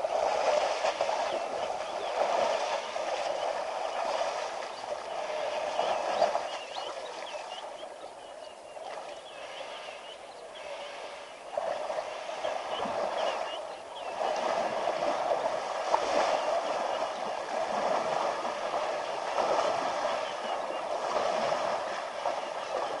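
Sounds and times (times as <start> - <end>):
elephant splashing through water: 0.0 - 8.1, 8.7 - 23.0.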